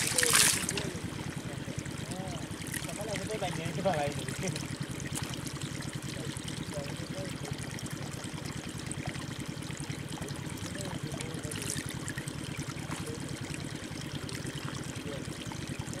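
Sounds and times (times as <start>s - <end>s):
muddy water trickling in ditch: 0.0s - 16.0s.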